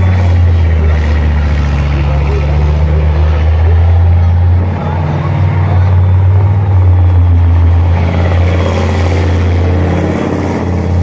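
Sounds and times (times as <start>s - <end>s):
diesel engine low rumble: 0.0s - 11.0s
vehicle tracks in mud: 0.0s - 11.0s.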